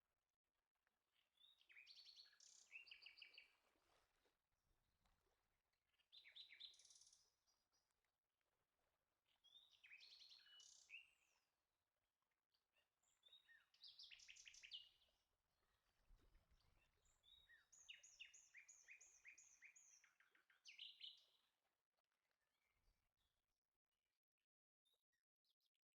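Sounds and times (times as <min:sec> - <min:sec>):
songbird chirping: 0:00.8 - 0:04.3, 0:05.8 - 0:23.5.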